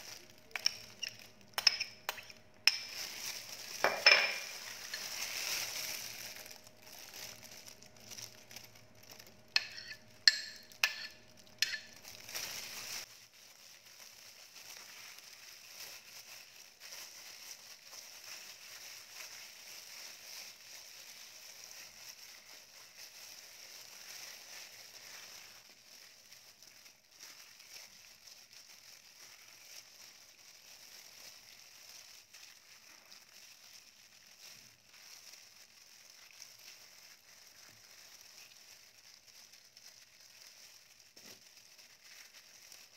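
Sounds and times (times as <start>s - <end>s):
plastic gloves crinkling: 0.0s - 42.9s.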